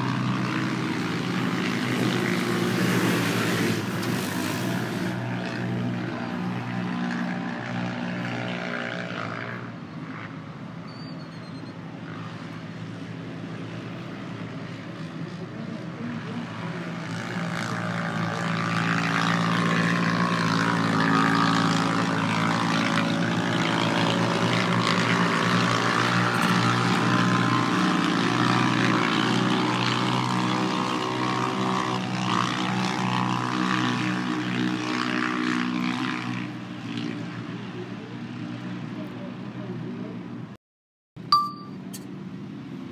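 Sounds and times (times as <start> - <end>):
off-road vehicle engines racing: 0.0 - 40.6.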